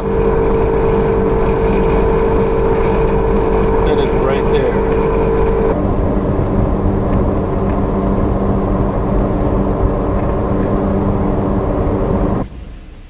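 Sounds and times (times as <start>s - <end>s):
vehicle hum and rumble: 0.0s - 13.0s.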